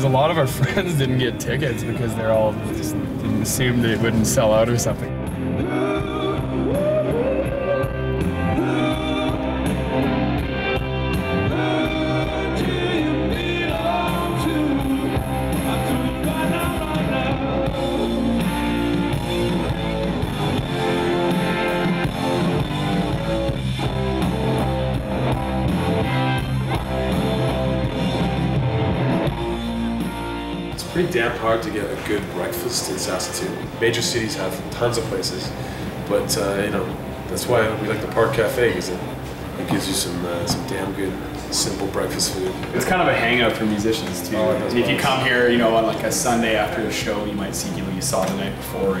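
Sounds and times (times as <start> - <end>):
rock music with singing: 0.0 - 49.0.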